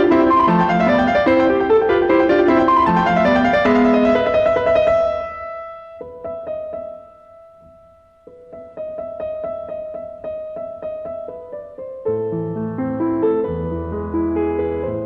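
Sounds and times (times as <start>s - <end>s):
quiet piano music: 0.0s - 15.0s.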